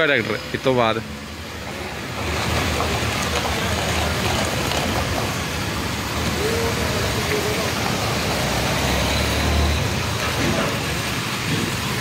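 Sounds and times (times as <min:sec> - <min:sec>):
pressure-washer jet hissing: 0:00.1 - 0:12.0.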